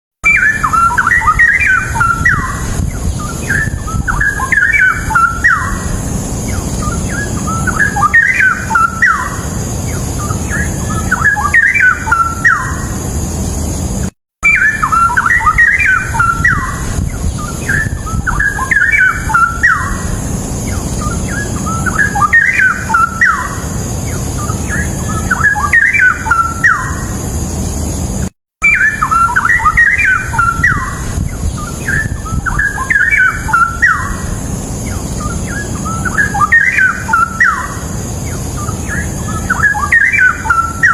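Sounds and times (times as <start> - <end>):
bird singing warbled phrases: 0.2 - 13.6, 14.4 - 27.8, 28.6 - 40.9
steady hiss and hum: 0.3 - 40.9.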